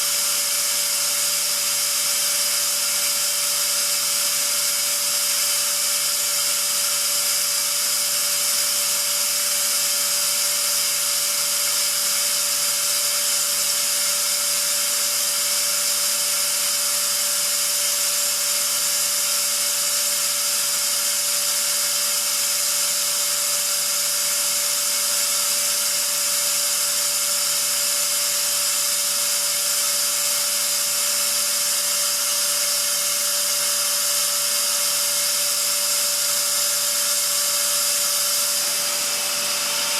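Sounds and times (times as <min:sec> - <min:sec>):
air compressor whine and hiss: 0:00.0 - 0:39.9.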